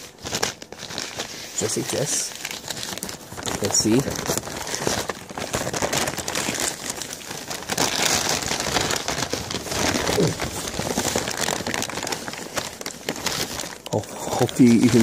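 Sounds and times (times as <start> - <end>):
paper bag crinkling: 0.0 - 15.0.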